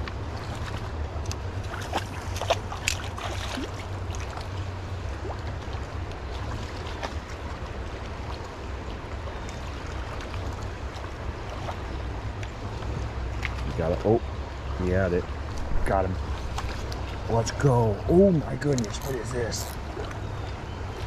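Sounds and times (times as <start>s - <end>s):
deep constant rumble: 0.0s - 21.0s
river water rushing: 0.0s - 21.0s.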